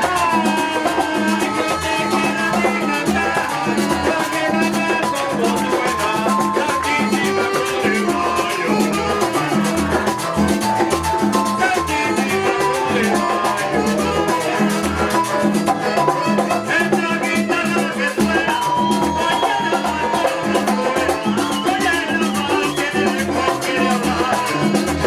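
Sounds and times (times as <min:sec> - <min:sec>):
salsa dance music: 0:00.0 - 0:25.0.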